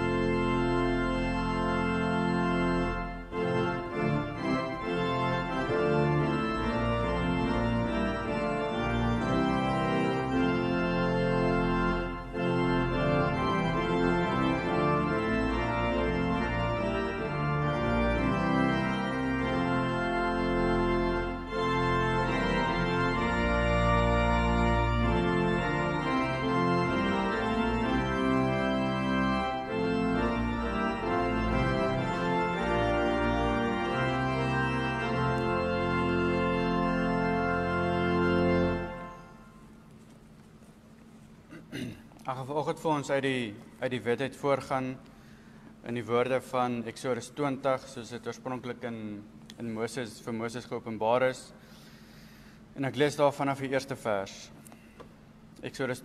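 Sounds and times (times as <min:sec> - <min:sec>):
church organ playing a hymn: 0:00.0 - 0:56.0.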